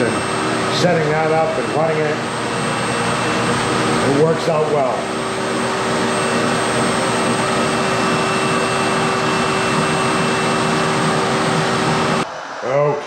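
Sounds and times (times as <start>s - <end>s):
power tool motor whining: 0.0s - 12.2s.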